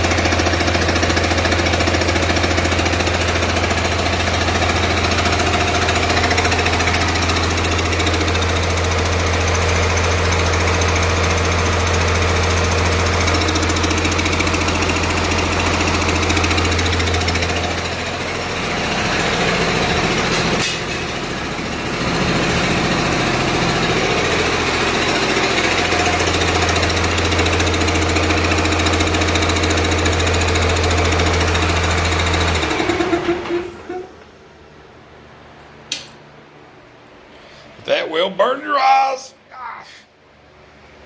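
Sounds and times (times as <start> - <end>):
diesel engine knocking clatter: 0.0 - 34.0.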